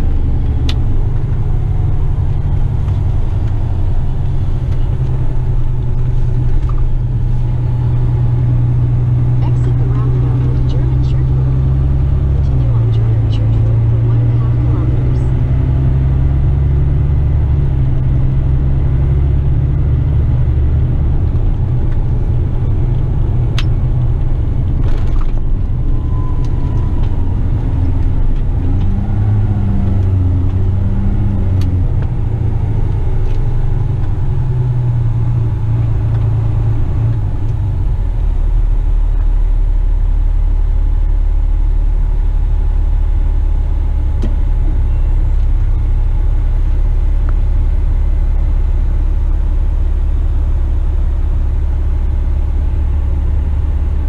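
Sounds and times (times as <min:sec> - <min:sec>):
truck diesel engine rumble: 0:00.0 - 0:54.0.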